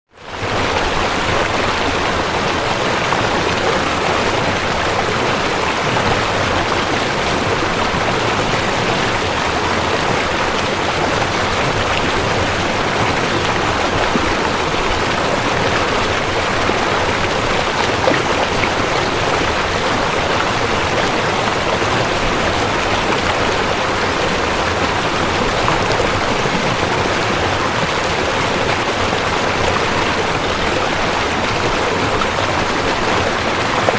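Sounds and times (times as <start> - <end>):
river water rushing over rocks: 0.2 - 33.9.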